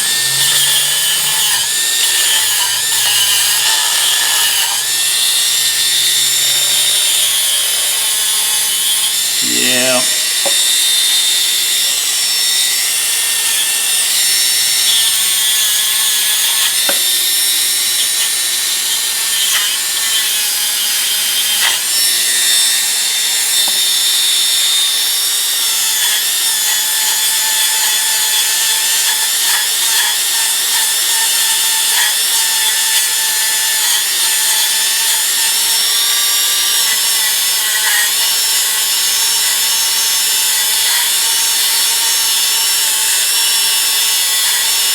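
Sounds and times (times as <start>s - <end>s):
power tool motor whine: 0.0s - 44.9s.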